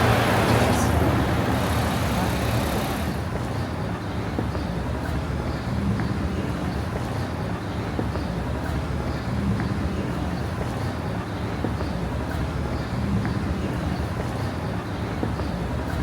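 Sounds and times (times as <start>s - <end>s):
faint voices of passers-by: 0.0s - 16.0s
low rumble of traffic: 0.0s - 16.0s.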